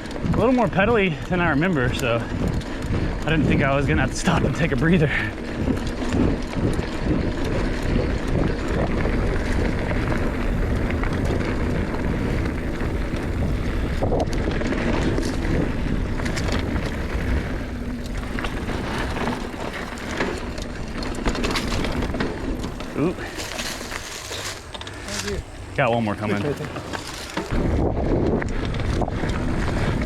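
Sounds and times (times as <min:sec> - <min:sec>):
bike tyre and drivetrain rumble: 0:00.0 - 0:30.0
wind buffeting microphone: 0:00.0 - 0:30.0.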